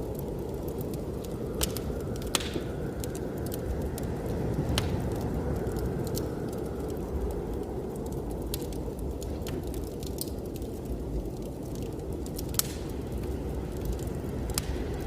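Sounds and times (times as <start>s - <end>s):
low rumble of blizzard wind: 0.0s - 15.0s
wood fire crackling and popping: 0.0s - 15.0s.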